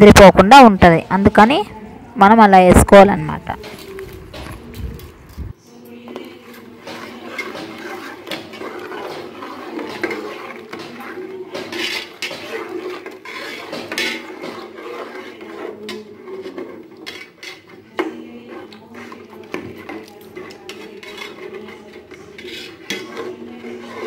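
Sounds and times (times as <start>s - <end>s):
spoon scraping metal pot: 3.5s - 24.0s
utensils clinking against pot: 3.6s - 24.0s.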